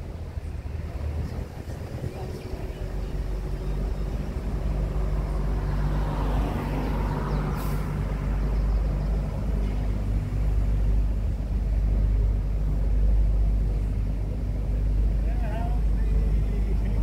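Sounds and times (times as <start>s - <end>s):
tram engine drone: 0.0s - 17.0s.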